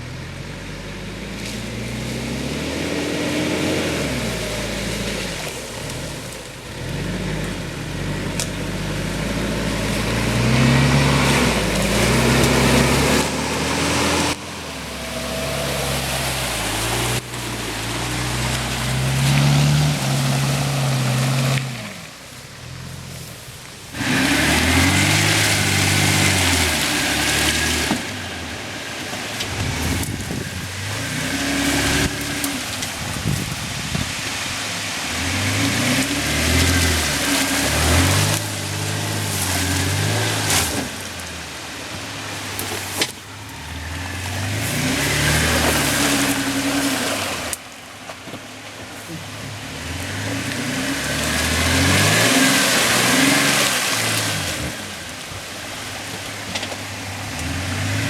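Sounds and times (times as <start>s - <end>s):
suv engine revving in mud: 0.0s - 58.0s.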